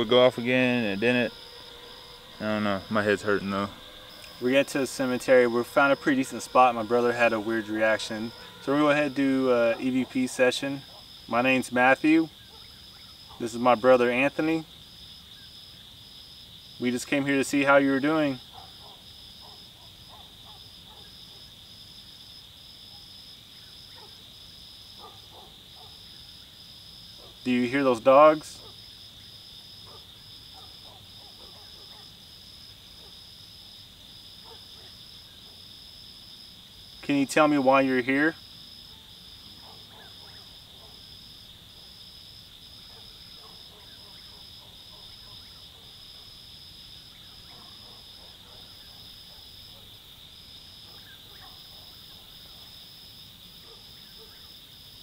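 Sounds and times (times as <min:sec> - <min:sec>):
distant dogs barking: 0:00.0 - 0:14.6, 0:17.4 - 0:21.6, 0:23.8 - 0:24.3, 0:24.9 - 0:26.3, 0:27.1 - 0:29.0, 0:29.8 - 0:33.3, 0:34.3 - 0:35.8, 0:37.1 - 0:54.7
night insects trilling: 0:00.0 - 0:55.0.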